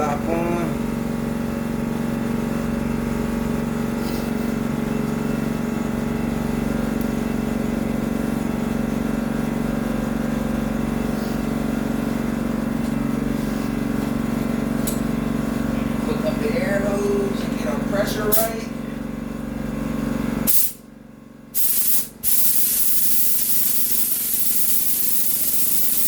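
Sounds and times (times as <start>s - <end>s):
compressor and fan hum: 0.0s - 26.0s.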